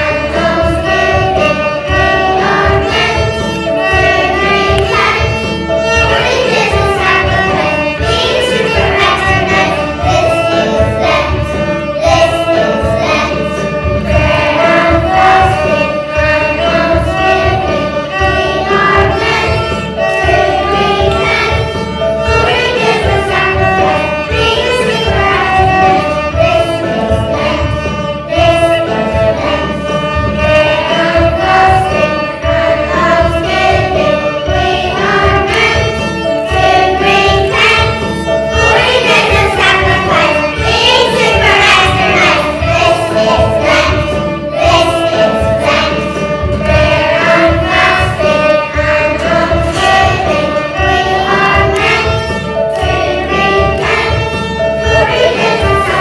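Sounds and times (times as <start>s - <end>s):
children singing in unison: 0.0s - 56.0s
steady beat: 0.0s - 56.0s
violins: 0.0s - 56.0s.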